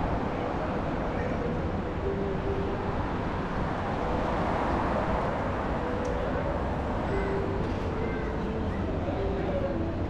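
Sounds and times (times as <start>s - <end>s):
city background rumble and hiss: 0.0s - 10.0s.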